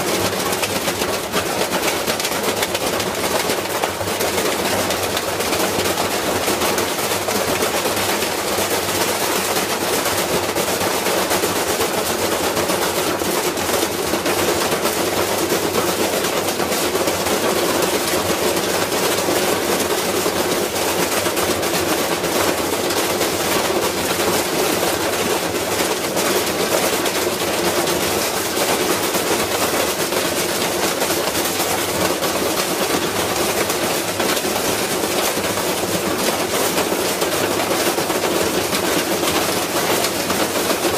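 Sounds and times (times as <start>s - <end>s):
washing machine banging and rattling: 0.0s - 40.9s.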